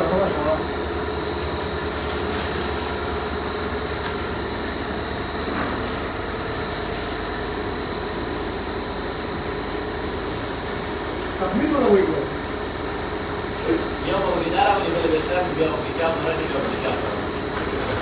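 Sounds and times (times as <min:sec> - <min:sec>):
factory machinery hum and rumble: 0:00.0 - 0:18.0.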